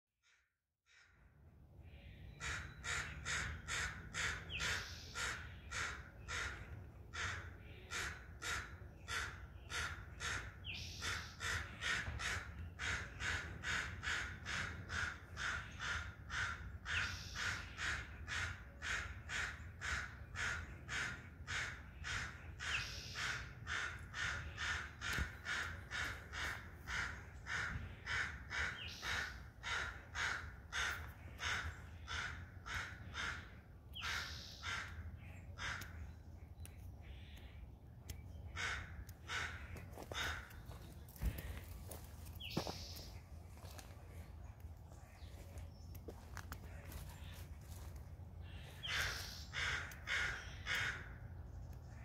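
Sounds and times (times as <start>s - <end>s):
bird harsh calls: 0.2s - 52.0s.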